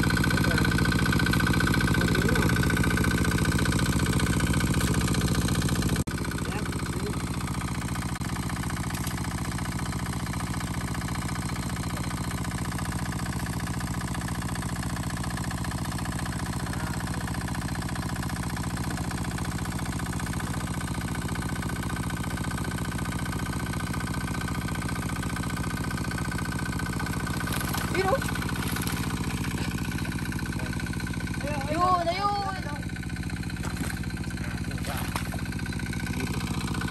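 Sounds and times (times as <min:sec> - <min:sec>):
small engine running steadily: 0:00.0 - 0:36.9.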